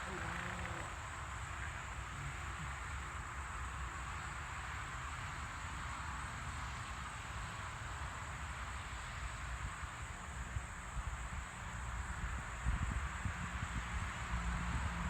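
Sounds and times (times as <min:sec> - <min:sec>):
insects chorus: 0:00.0 - 0:13.8.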